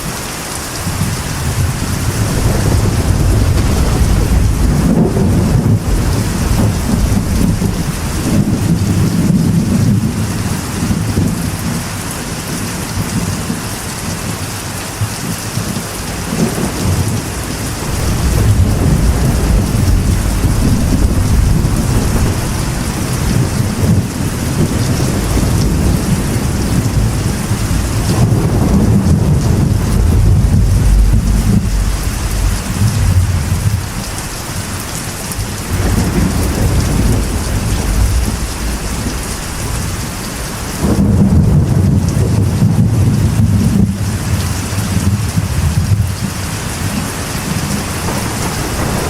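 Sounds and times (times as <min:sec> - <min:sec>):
heavy rain: 0:00.0 - 0:49.0
rolling thunder: 0:00.8 - 0:49.0.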